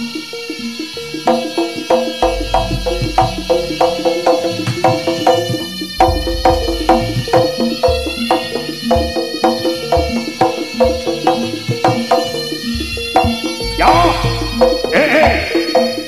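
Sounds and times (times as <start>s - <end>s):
gamelan music over loudspeaker: 0.0s - 16.0s
pitched metal percussion: 0.7s - 16.0s
low drum beats: 2.2s - 15.7s.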